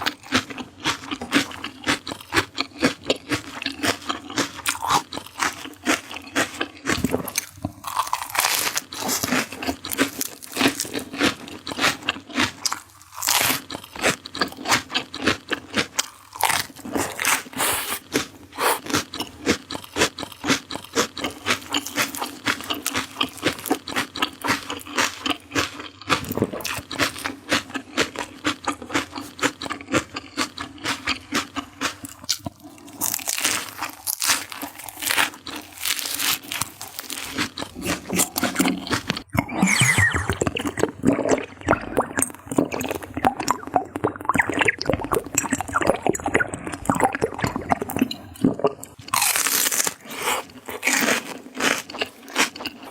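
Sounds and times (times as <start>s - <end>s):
crunching and chewing vegetables: 0.0s - 52.9s.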